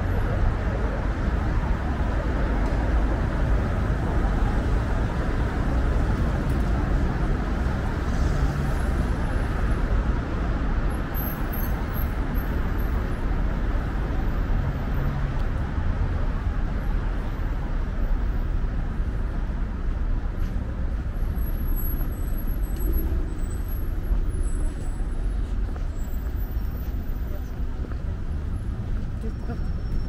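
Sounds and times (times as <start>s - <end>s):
busy road traffic: 0.0s - 30.0s.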